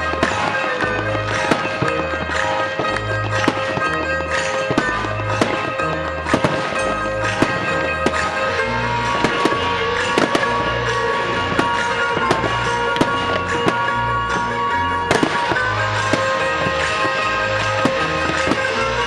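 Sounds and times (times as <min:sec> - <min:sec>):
fireworks bangs and cracks: 0:00.0 - 0:19.0
loud music with bass line: 0:00.0 - 0:19.0.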